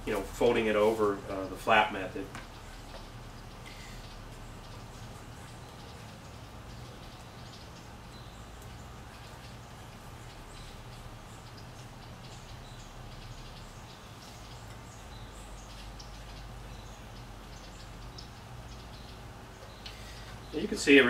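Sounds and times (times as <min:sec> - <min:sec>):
low steady hum: 0:00.0 - 0:21.0
faint high chirps and ticks: 0:02.2 - 0:21.0.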